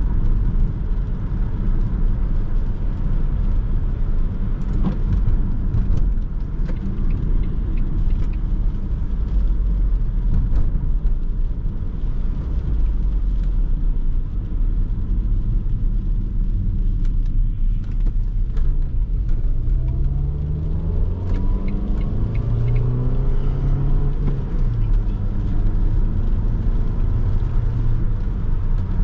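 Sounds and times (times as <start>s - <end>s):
car engine rumble: 0.0s - 29.0s
tyre noise on wet road: 0.0s - 29.0s.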